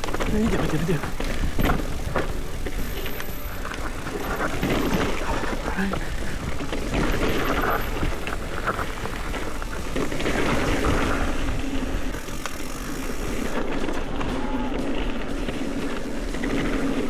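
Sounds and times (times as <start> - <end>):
bike rattling and knocking: 0.0 - 14.2, 14.9 - 17.0
tyres rumbling on dirt: 0.0 - 17.0.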